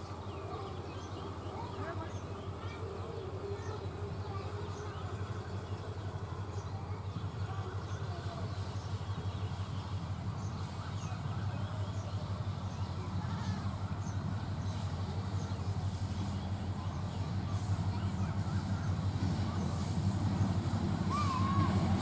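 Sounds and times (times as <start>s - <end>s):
birds chirping: 0.0s - 22.0s
diesel train engine rumbling: 0.0s - 22.0s.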